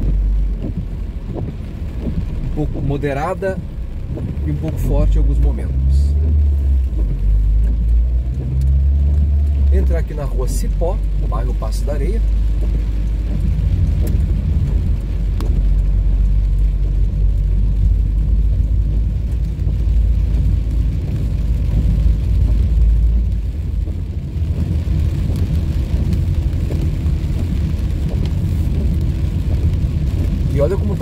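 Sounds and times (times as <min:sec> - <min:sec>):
car driving on wet road: 0:00.0 - 0:31.0.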